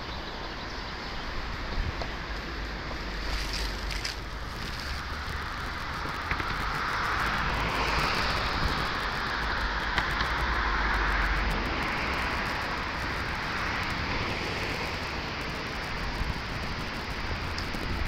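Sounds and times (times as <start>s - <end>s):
wind rumbling on microphone: 0.1s - 18.0s.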